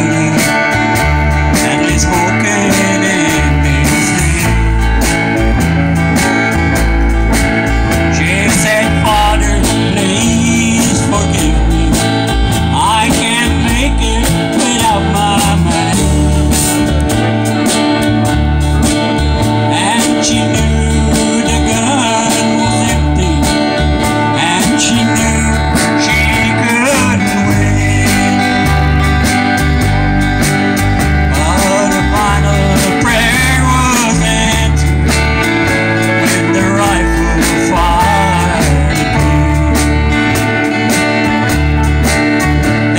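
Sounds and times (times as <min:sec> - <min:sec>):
acoustic rhythm guitar: 0:00.0 - 0:42.9
drum kit: 0:00.0 - 0:42.9
electric bass: 0:00.0 - 0:42.9
electric lead guitar: 0:00.0 - 0:42.9.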